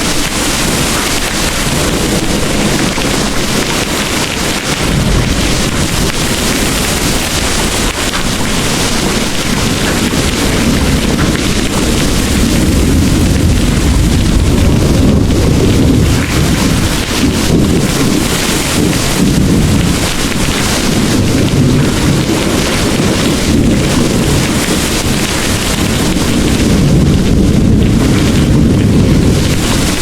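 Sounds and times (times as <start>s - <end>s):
distant thunder rumbling: 0.0s - 30.0s
heavy rain pouring: 0.0s - 30.0s.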